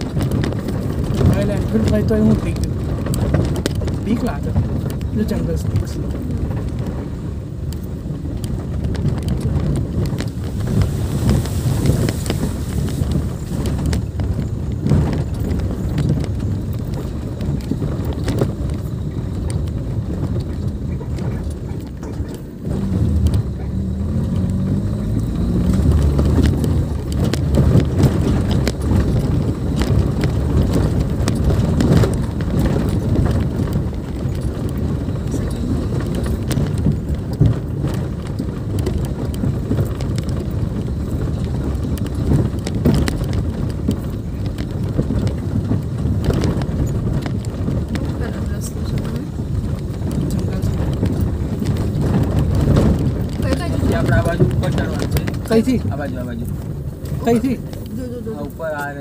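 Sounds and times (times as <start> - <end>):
car engine and tyres rumbling: 0.0 - 59.0
knocks and rattles over bumps: 0.0 - 59.0.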